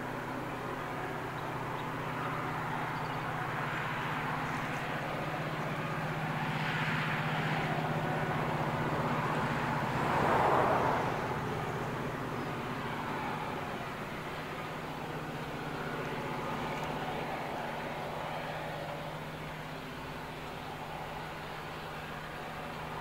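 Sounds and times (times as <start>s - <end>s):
locomotive engine drone: 0.0s - 23.0s
wheels rumbling on rails: 0.0s - 23.0s.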